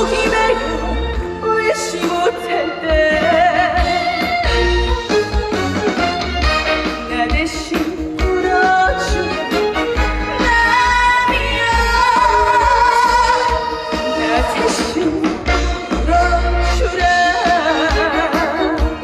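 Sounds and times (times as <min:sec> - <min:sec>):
woman singing with vibrato: 0:00.0 - 0:04.7, 0:06.7 - 0:19.0
band accompaniment: 0:00.0 - 0:19.0.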